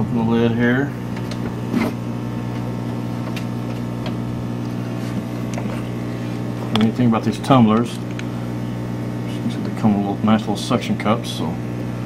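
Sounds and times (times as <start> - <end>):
aquarium pump humming: 0.0 - 12.0.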